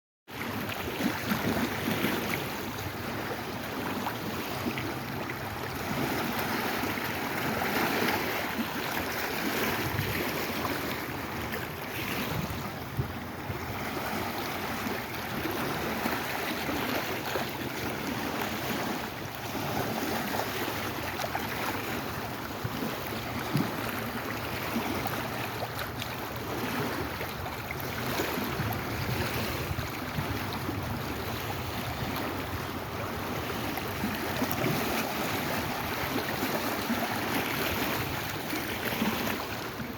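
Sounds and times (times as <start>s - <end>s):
waves washing: 0.3s - 39.9s.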